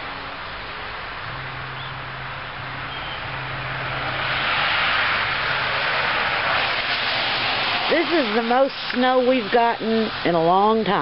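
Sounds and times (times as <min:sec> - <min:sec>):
low engine hum: 0:00.0 - 0:11.0
tyre hiss on wet street: 0:00.0 - 0:11.0.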